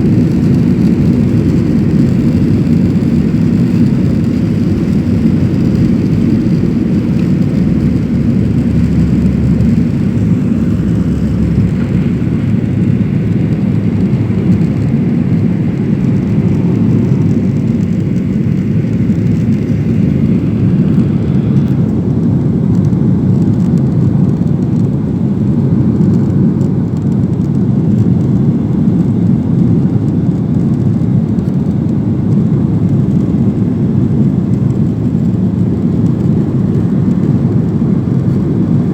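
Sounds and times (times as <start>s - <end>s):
jet engine and airflow in cabin: 0.0s - 38.9s.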